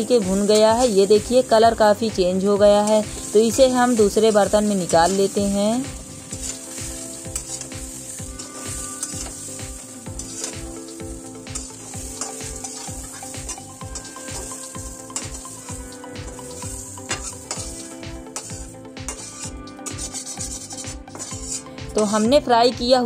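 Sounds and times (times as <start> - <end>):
vegetables sizzling in oil: 0.0 - 23.0
metal spatula scraping a pan: 2.8 - 22.2.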